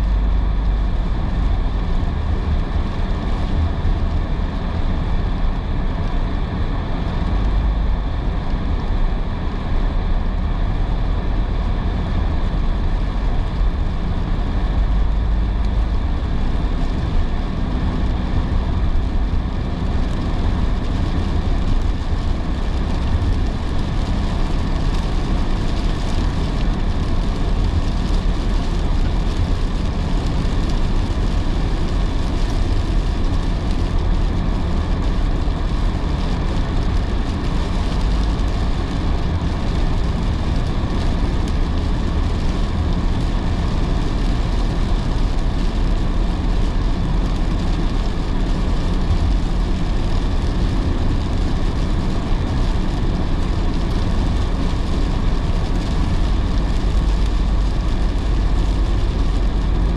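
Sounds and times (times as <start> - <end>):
car road noise rumble: 0.0 - 59.9
heavy rain: 0.0 - 59.9
tyres hissing on wet road: 11.2 - 59.9.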